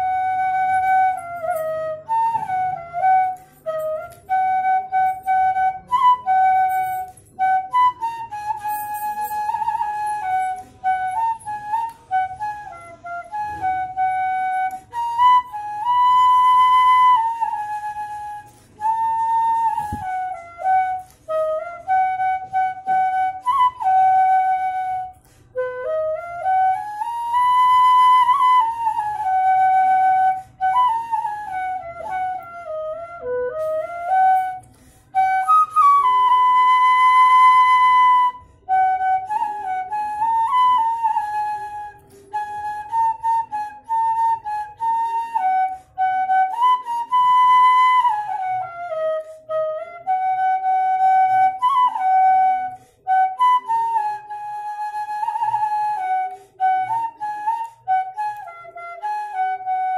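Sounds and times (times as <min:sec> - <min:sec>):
bamboo flute melody: 0:00.0 - 0:59.9.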